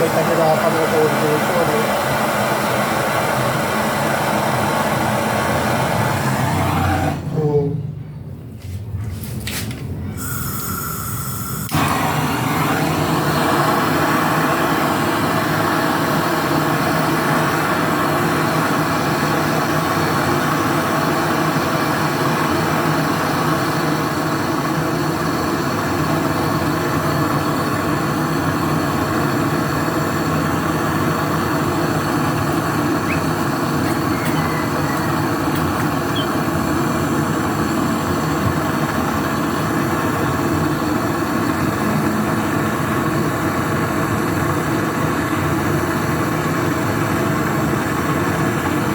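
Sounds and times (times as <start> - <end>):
torch flame hissing: 0.0 - 7.3, 10.2 - 48.9.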